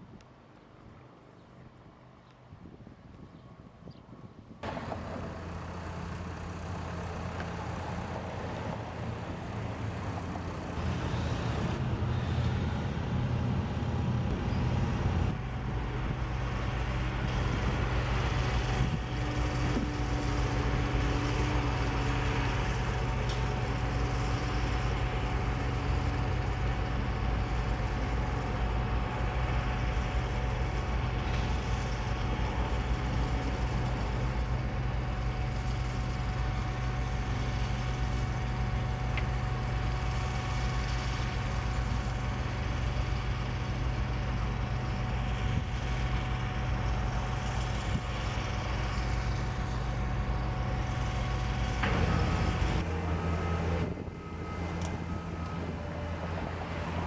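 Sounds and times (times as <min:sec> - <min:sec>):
backhoe loader driving: 0:04.6 - 0:57.0
diesel engines droning: 0:04.6 - 0:57.0
thin steady whine: 0:04.6 - 0:57.0.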